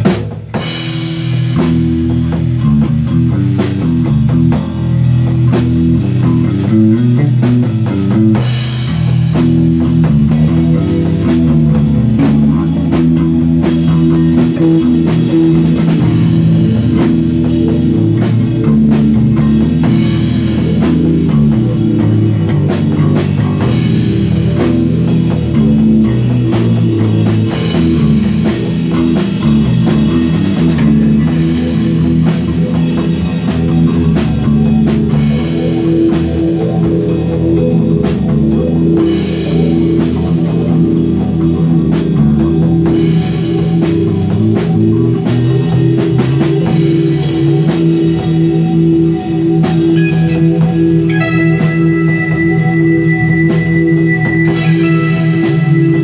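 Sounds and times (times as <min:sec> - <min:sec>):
bass guitar: 0:00.0 - 0:56.0
drum kit with cymbals: 0:00.0 - 0:56.0
electric guitar: 0:00.0 - 0:56.0.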